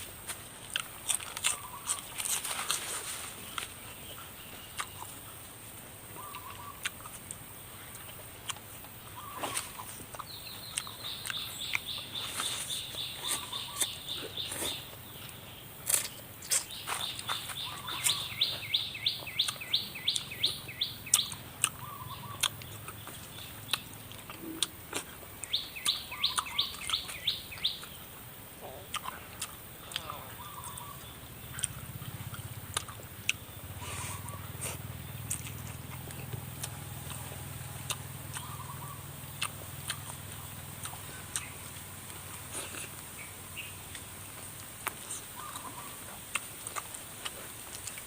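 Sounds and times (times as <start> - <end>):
low bird chirps: 6.1 - 8.0, 9.0 - 29.2, 29.8 - 46.3.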